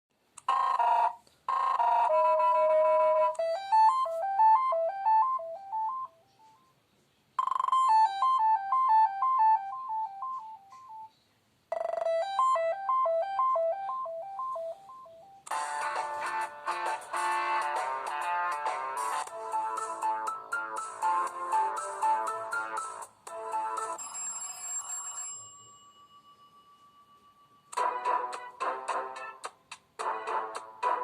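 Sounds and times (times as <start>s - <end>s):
electronic phone ringtone melodies: 0.5s - 6.8s, 7.4s - 11.1s, 11.7s - 28.6s.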